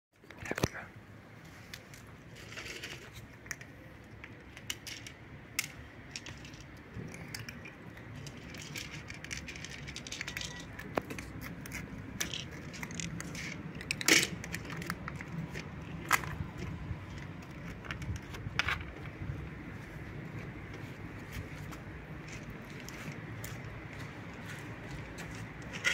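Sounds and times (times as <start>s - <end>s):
cats crunching dry kibble: 1.6s - 19.3s, 21.2s - 25.9s.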